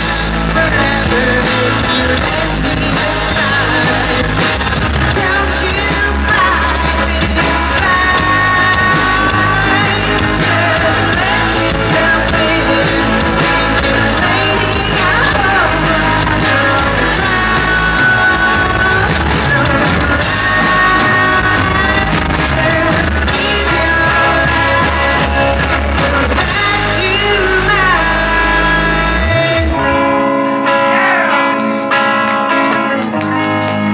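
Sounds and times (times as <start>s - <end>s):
drum kit with cymbals: 0.0s - 29.7s
electric guitar: 0.0s - 33.9s
person singing: 0.0s - 33.9s.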